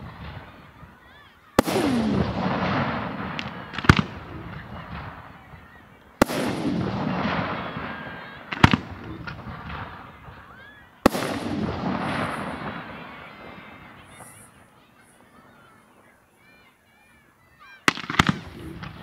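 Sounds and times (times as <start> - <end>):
smaller firework cracks: 0.0 - 15.2, 17.8 - 19.0
firework bangs: 0.0 - 16.1, 17.8 - 19.0
firework crackle and echo: 0.0 - 16.6, 17.8 - 19.0.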